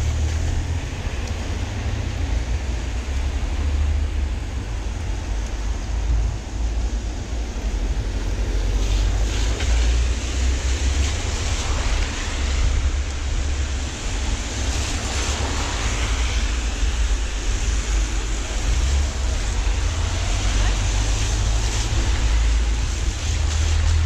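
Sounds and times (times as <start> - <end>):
rain hissing on street: 0.0 - 24.0
wind rumbling on microphone: 0.0 - 24.0.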